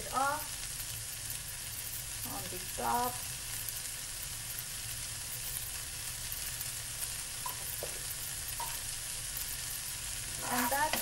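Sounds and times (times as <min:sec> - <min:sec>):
rice sizzling in a frying pan: 0:00.0 - 0:11.0
spoon stirring in a pan: 0:00.4 - 0:11.0.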